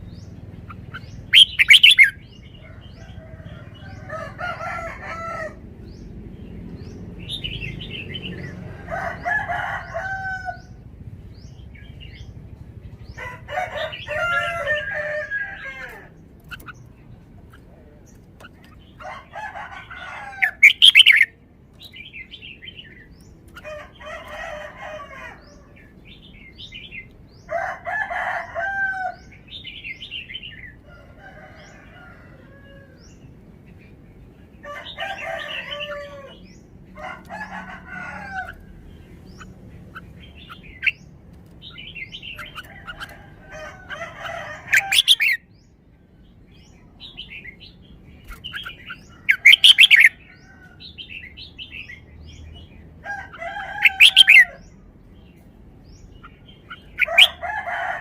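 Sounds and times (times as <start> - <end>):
bird singing warbled phrases: 0.0 - 58.0.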